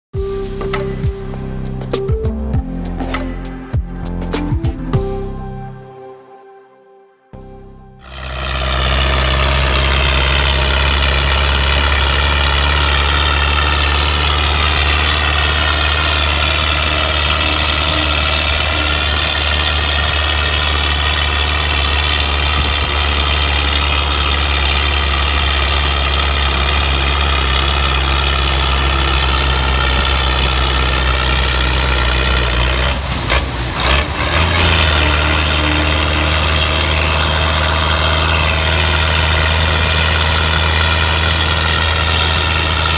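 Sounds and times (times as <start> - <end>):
tractor diesel engine under load: 8.0 - 42.9.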